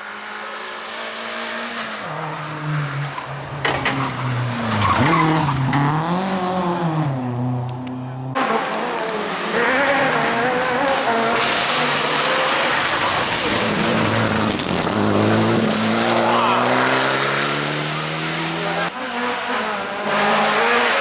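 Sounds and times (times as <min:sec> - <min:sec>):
rally car engine revving: 0:00.0 - 0:21.0
tyres skidding: 0:01.3 - 0:21.0.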